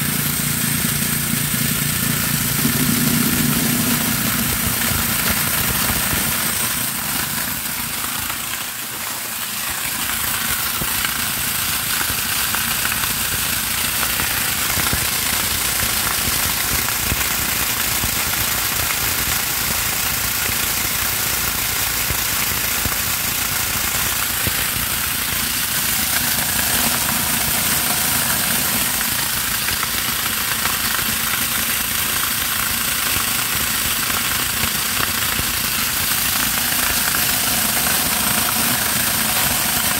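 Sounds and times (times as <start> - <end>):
electric grinder grinding corn: 0.0 - 39.9.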